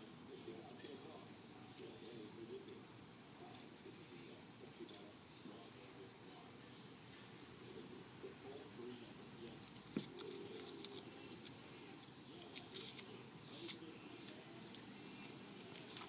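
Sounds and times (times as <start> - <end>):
low steady background noise: 0.0 - 16.0.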